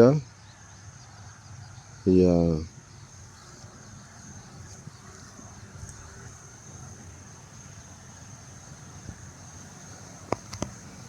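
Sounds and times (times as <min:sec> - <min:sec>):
insects chirring: 0:00.0 - 0:11.0
wind rumble: 0:01.3 - 0:11.0.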